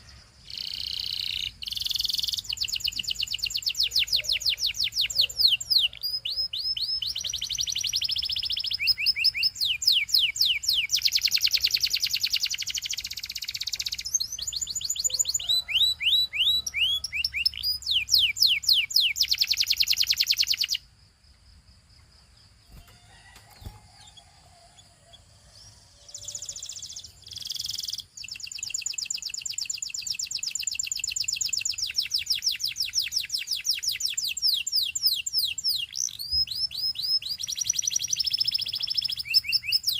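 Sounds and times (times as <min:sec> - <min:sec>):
canary singing: 0:00.0 - 0:20.9, 0:22.7 - 0:39.9.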